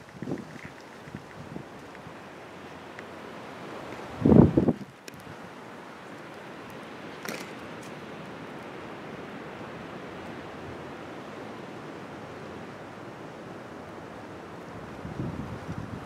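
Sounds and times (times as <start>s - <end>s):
wind hiss on microphone: 0.0s - 16.0s.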